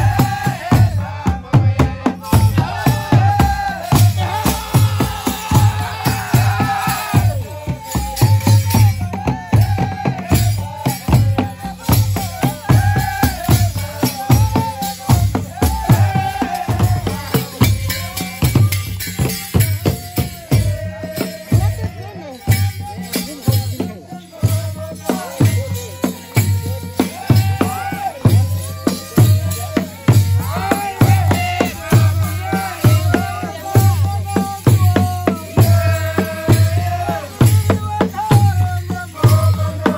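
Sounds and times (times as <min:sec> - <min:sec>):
hand drums beating: 0:00.0 - 0:39.9
voices singing and chanting: 0:00.0 - 0:39.9.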